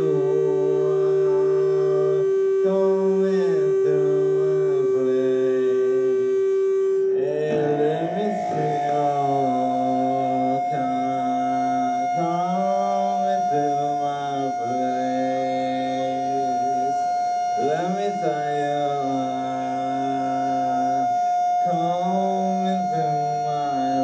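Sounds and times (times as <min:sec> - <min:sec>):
sliding chant-like vocal: 0:00.0 - 0:17.0, 0:17.6 - 0:21.1, 0:21.7 - 0:24.0
band playing droning held note: 0:00.0 - 0:24.0.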